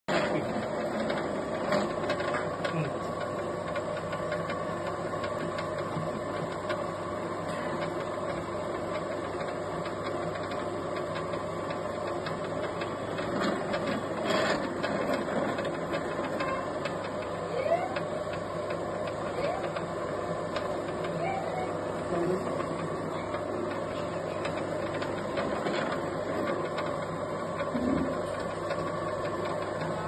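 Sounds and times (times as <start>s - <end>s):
light clicks from rollers: 0.1s - 30.0s
noodle machine motor hum: 0.1s - 30.0s.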